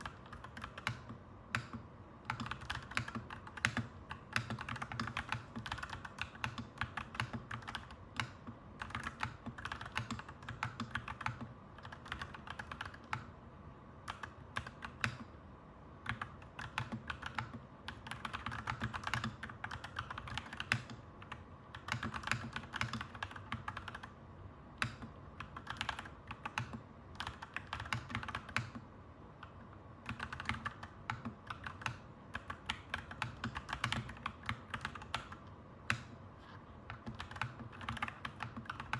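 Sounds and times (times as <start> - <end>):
mechanical keyboard typing: 0.0 - 13.4, 14.0 - 15.3, 16.0 - 24.2, 24.8 - 38.9
low background hum: 0.0 - 38.9.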